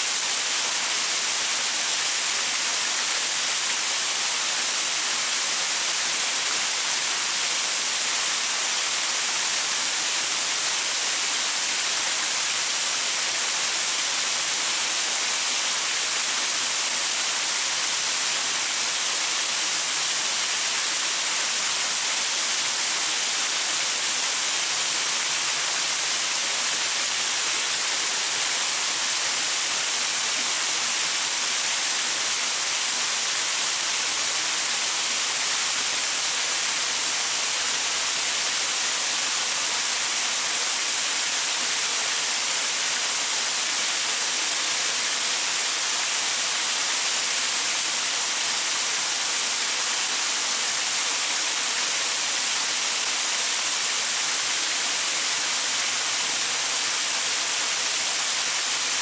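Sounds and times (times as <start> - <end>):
waterfall splashing onto rocks: 0.0 - 59.0.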